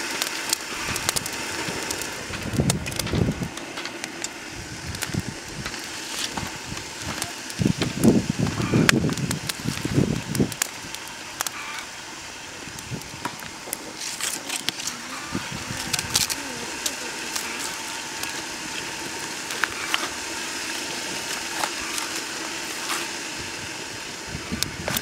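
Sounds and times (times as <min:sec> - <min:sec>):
steady hiss: 0:00.0 - 0:25.0
wood fire crackling: 0:00.0 - 0:25.0.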